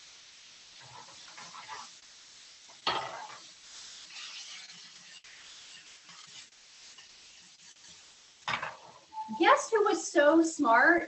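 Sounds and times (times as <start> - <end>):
food sizzling in skillet: 0.0 - 11.0
spatula scraping pan: 0.7 - 9.8.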